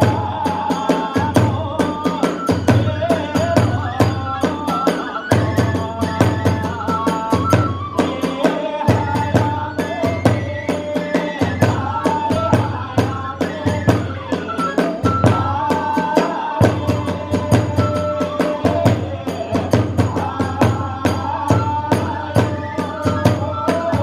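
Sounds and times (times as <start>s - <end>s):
fast drum strokes: 0.0s - 24.0s
wavering flute melody: 2.0s - 24.0s.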